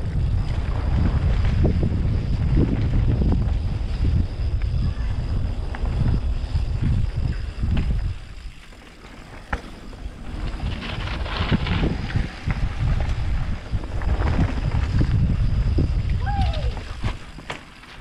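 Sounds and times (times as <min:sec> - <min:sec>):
wind rushing over microphone: 0:00.0 - 0:17.5
bike rattling: 0:00.0 - 0:18.0
bike tyres on dirt trail: 0:00.0 - 0:18.0.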